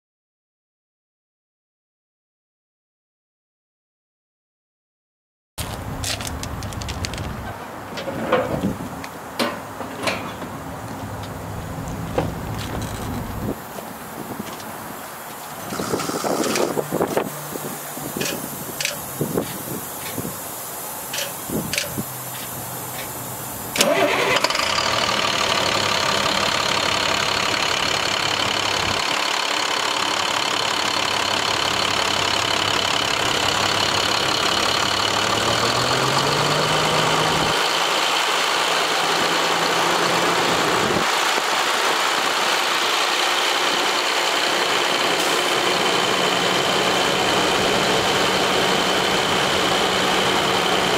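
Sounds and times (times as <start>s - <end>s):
diesel engine starting and idling: 9.6s - 50.9s.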